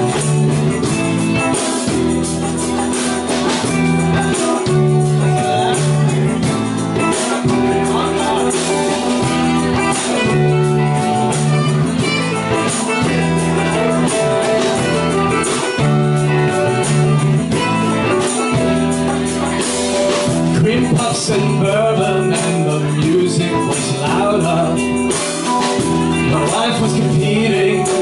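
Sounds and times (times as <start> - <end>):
live band playing instrumental: 0.0 - 28.0.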